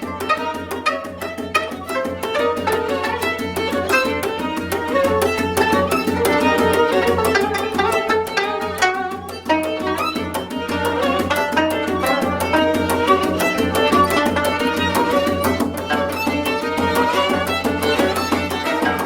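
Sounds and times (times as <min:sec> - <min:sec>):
bowed string instrument: 0:00.0 - 0:19.0
plucked zither notes: 0:00.0 - 0:19.0.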